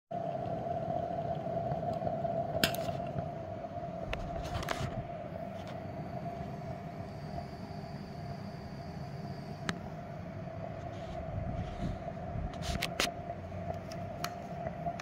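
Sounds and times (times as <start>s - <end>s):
gas burner humming: 0.2s - 15.0s.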